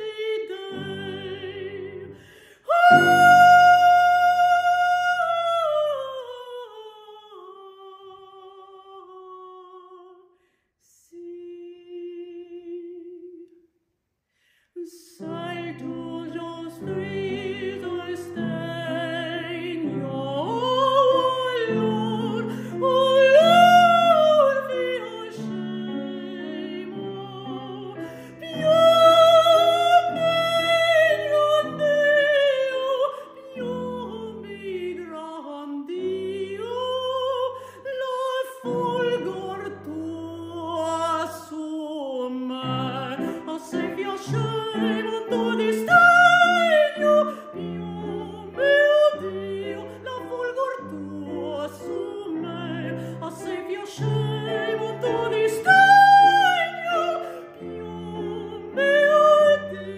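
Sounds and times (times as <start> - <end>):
piano accompaniment: 0.0 - 6.8, 15.2 - 59.9
woman singing opera: 0.0 - 13.6, 14.8 - 59.9.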